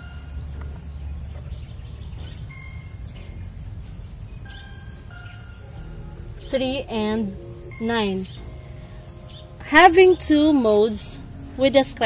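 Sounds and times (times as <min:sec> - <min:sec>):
bird chirps: 0:00.0 - 0:12.0
insect drone: 0:00.0 - 0:12.0
low hum: 0:00.0 - 0:12.0.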